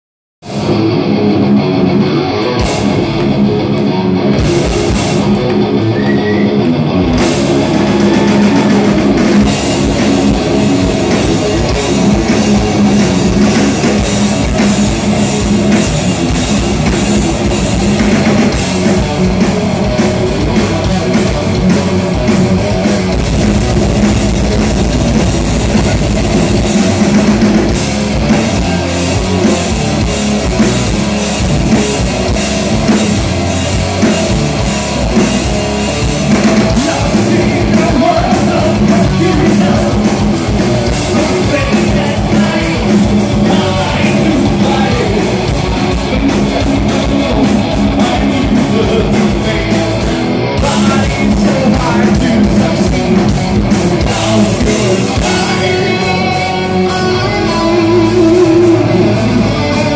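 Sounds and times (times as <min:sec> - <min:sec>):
heavy metal band playing: 0:00.4 - 0:59.9
drums and cymbals: 0:04.3 - 0:06.5, 0:07.1 - 0:59.9.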